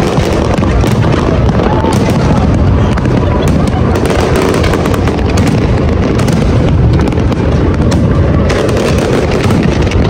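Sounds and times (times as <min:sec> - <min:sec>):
firework shell bursts rumbling: 0:00.0 - 0:10.0
fireworks crackling: 0:00.0 - 0:10.0.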